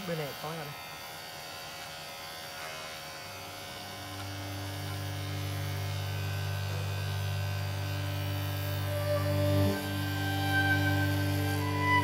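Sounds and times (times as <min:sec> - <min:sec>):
electric hair clipper humming: 0:00.0 - 0:12.0.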